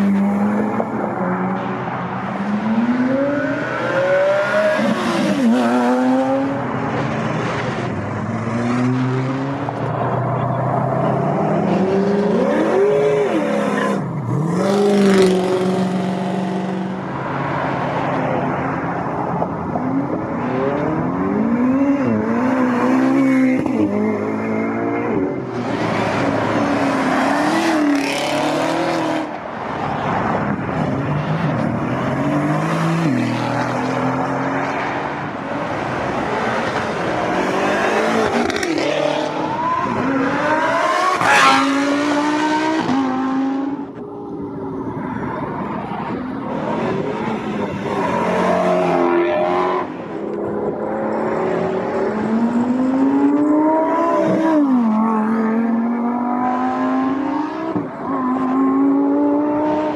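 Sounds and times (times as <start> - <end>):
performance cars revving and accelerating: 0.0 - 59.9.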